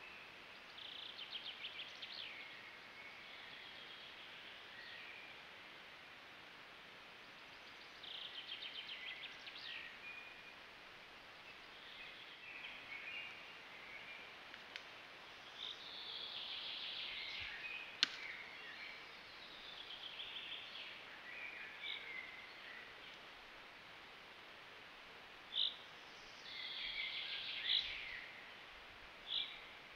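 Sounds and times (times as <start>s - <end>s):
songbirds singing: 0.0s - 6.3s, 6.9s - 23.8s, 25.2s - 29.9s
faint steady hiss: 0.0s - 29.9s.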